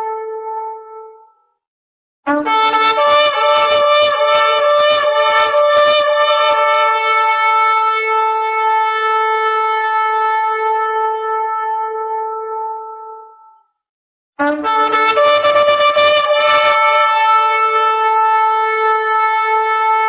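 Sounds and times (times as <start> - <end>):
shofar blast: 2.3 - 13.1, 14.4 - 20.0.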